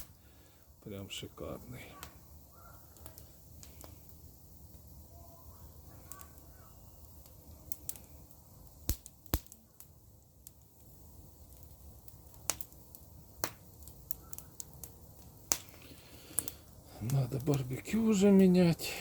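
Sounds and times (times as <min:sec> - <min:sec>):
sharp pops from fire: 0:00.0 - 0:19.0
wood fire crackling: 0:00.0 - 0:19.0.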